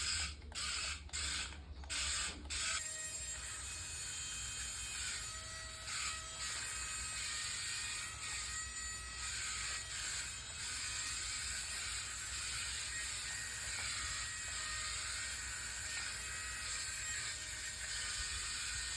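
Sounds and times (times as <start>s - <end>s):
toy car motor whir: 0.0s - 18.9s.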